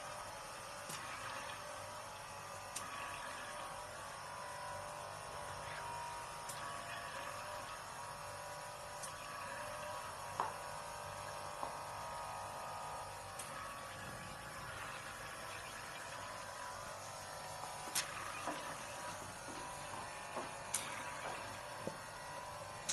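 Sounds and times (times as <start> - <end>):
machine electrical hum: 0.0 - 22.9.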